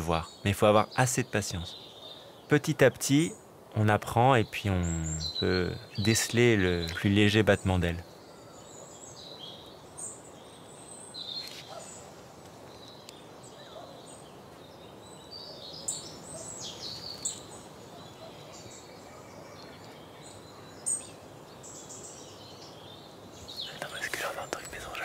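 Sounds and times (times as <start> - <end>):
bird chirps and calls: 0.0 - 25.0
faint steady hiss: 0.0 - 25.0.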